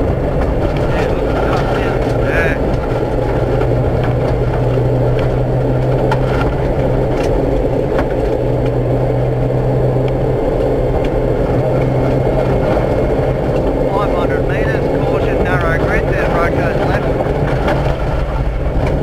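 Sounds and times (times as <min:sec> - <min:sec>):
car engine droning: 0:00.0 - 0:19.0
tyre noise on dirt road: 0:00.0 - 0:19.0.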